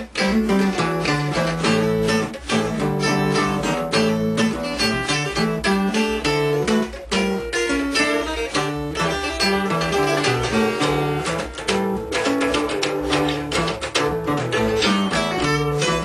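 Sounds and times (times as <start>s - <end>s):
acoustic guitars strumming: 0.0s - 16.0s.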